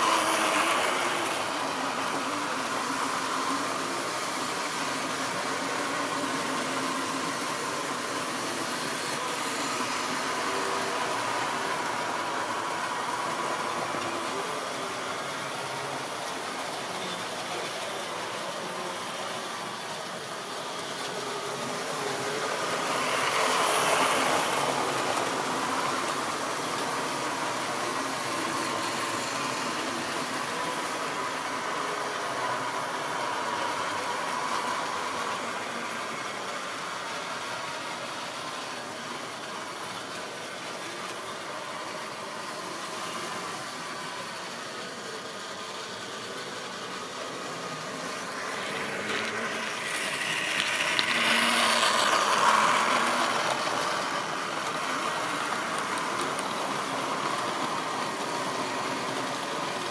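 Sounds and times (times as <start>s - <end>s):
model train motor whining: 0.0s - 59.9s
wagons running on track: 0.0s - 59.9s.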